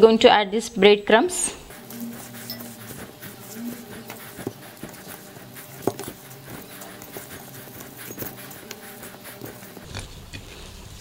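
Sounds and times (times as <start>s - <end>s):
hands squishing mashed potato: 1.7s - 11.0s.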